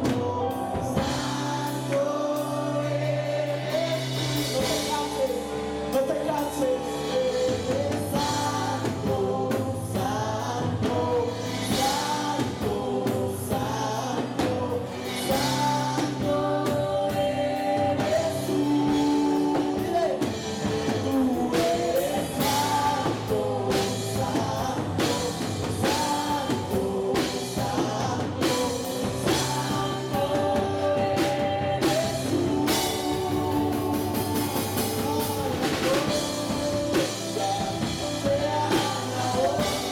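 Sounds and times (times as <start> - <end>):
electric guitars: 0.0 - 39.9
keyboard playing: 0.0 - 39.9
man singing: 0.0 - 39.9
steady drum beat: 0.0 - 39.9
woman singing: 0.0 - 39.9.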